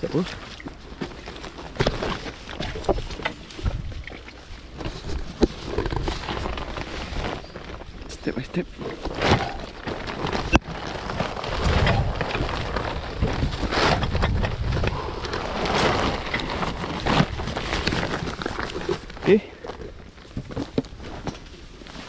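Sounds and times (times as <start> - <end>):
footsteps in soft mud: 0.0 - 22.0
low rumble on microphone: 1.9 - 8.2, 8.8 - 21.3.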